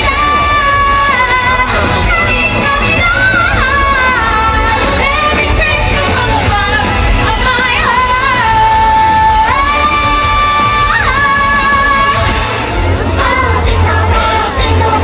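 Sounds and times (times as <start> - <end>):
stage-show backing track: 0.0 - 15.0.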